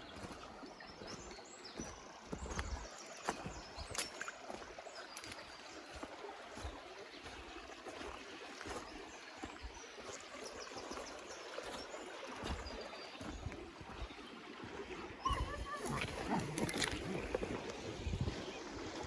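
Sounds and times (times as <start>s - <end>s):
stream water trickling: 0.0s - 19.0s.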